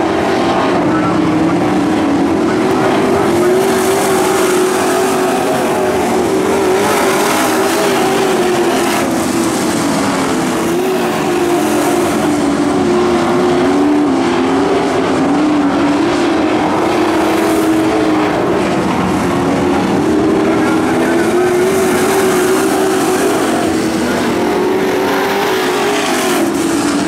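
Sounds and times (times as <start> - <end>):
racing truck engines: 0.0 - 27.0
roar of track noise: 0.0 - 27.0.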